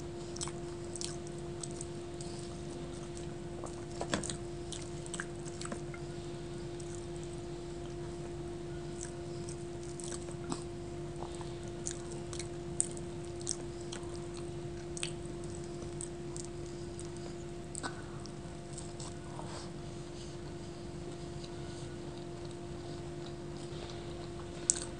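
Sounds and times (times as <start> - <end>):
chewing food: 0.0 - 24.9
steady low hum: 0.0 - 24.9.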